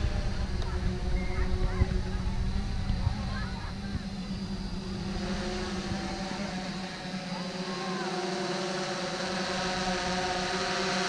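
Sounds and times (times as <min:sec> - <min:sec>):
drone propellers buzzing: 0:00.0 - 0:11.0.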